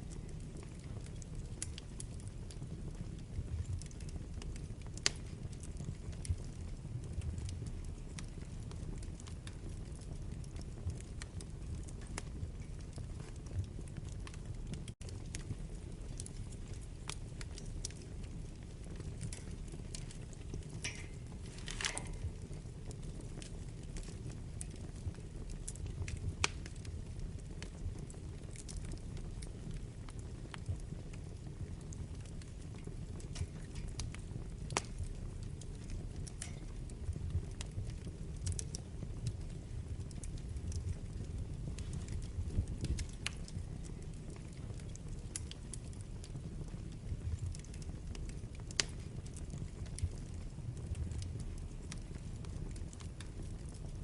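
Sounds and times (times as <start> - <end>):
fire crackling: 0.0 - 54.0
low rumble of flames: 0.0 - 54.0.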